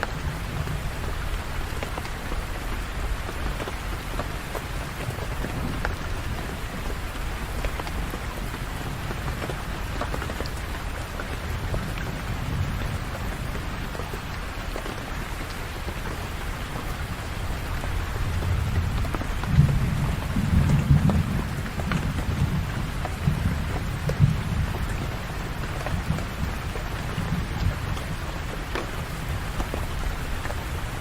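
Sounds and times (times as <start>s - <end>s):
thunder rumbling: 0.0s - 14.2s, 17.4s - 31.0s
steady rain: 0.0s - 31.0s.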